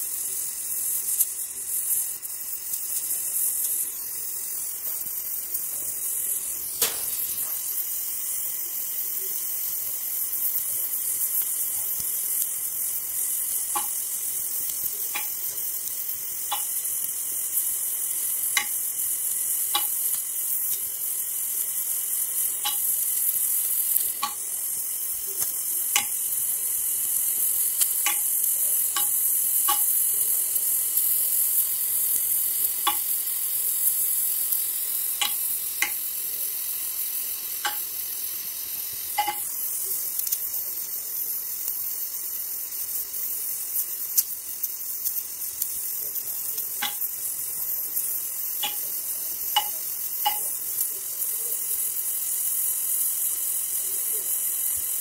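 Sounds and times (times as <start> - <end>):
welding torch flame hissing: 0.0 - 55.0
sharp crackling pops: 0.2 - 55.0.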